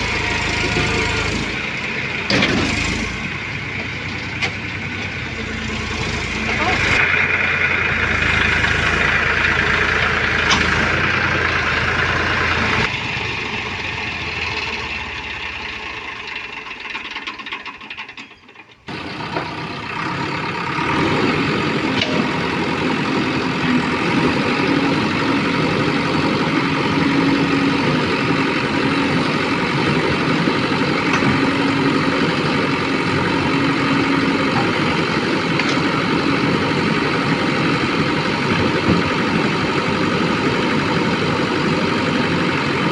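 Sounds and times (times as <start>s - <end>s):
diesel engines of heavy machinery: 0.0s - 42.9s.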